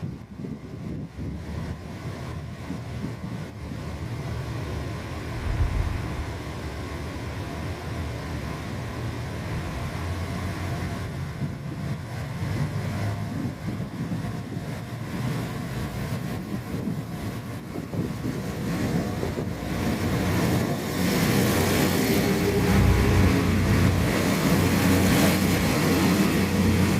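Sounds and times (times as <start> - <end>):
diesel railcar engine rumble: 0.0 - 26.9.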